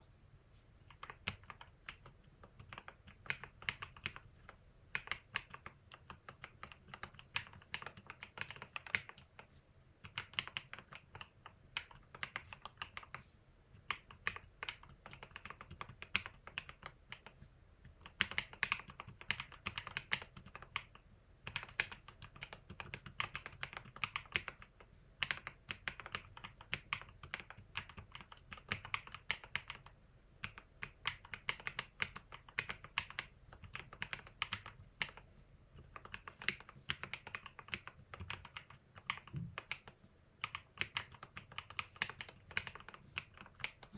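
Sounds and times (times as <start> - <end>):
mechanical keyboard typing: 0.8 - 13.2, 13.8 - 43.9.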